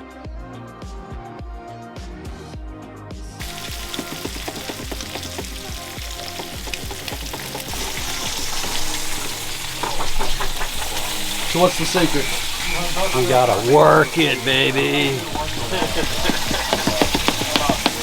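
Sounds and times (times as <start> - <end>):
background music with a beat: 0.0 - 18.0
food frying in a pan: 3.4 - 18.0.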